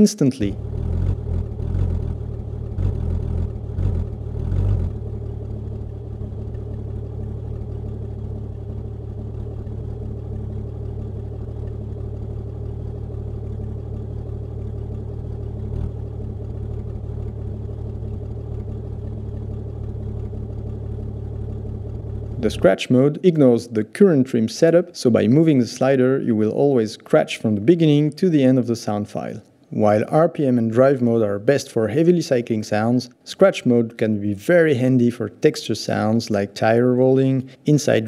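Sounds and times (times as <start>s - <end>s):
granular car engine rumble: 0.0s - 38.0s.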